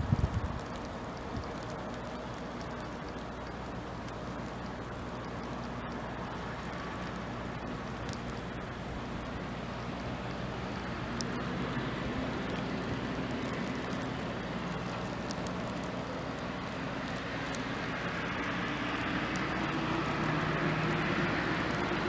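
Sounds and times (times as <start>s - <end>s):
distant motor vehicle hum: 0.0s - 22.0s
wind: 0.0s - 22.0s.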